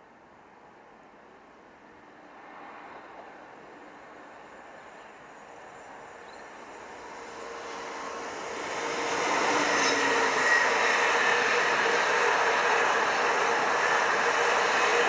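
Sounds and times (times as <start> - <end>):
freight train passing: 1.7 - 15.0.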